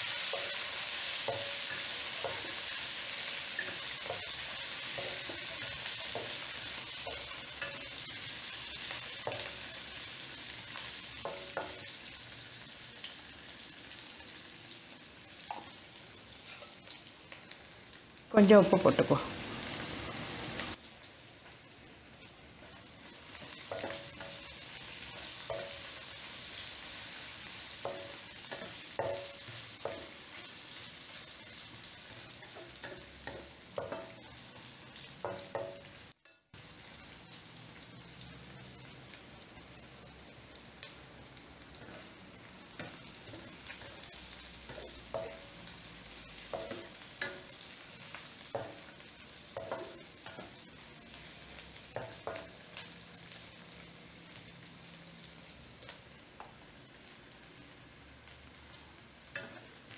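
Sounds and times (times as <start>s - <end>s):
onions sizzling in oil: 0.0s - 59.9s.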